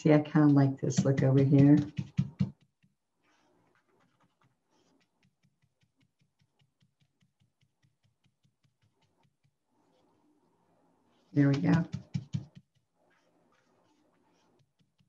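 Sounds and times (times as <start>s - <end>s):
brush tapping on paper: 0.1s - 9.6s, 11.4s - 15.0s.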